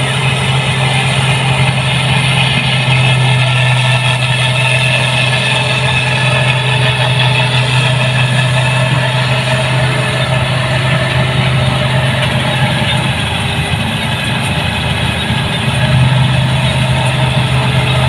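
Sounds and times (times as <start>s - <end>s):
combine harvester engine hum: 0.0s - 18.0s.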